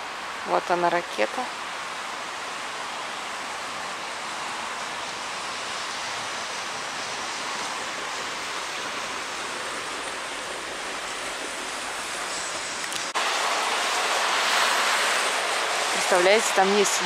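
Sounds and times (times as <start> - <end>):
city road traffic hiss: 0.0 - 17.0.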